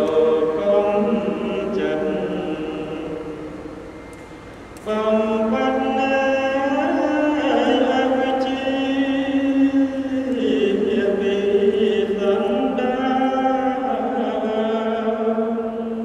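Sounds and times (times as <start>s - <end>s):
monk chanting into microphone: 0.0s - 3.5s, 4.8s - 16.0s.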